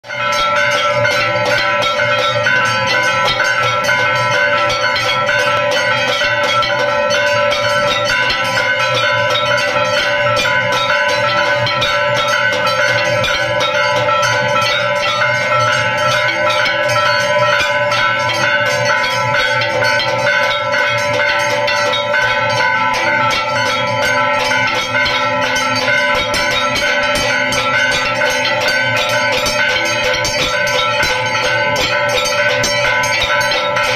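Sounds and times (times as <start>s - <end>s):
temple bells ringing rapidly: 0.0s - 33.9s.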